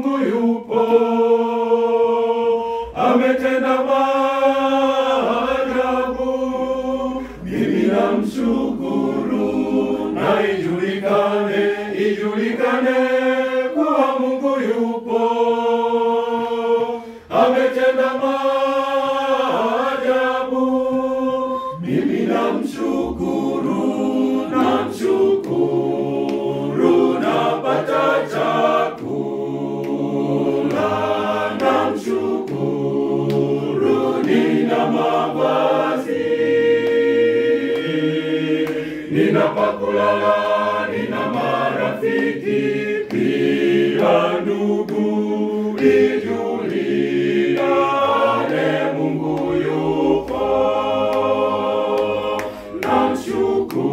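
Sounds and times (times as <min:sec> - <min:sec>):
mixed choir singing a cappella: 0:00.0 - 0:53.9.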